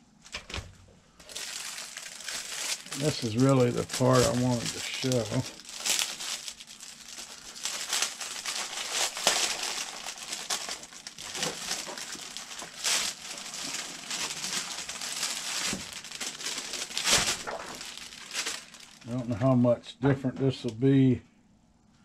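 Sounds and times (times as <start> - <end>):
plastic wrapping crinkling: 1.2 - 19.3.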